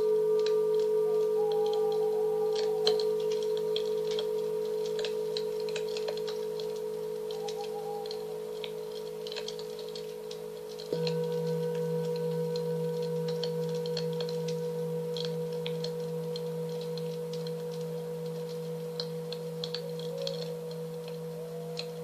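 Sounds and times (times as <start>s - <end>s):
faint high chirps: 0.0s - 9.5s, 11.0s - 22.0s
singing bowl struck: 0.0s - 22.0s
singing bowls ringing: 0.0s - 22.0s.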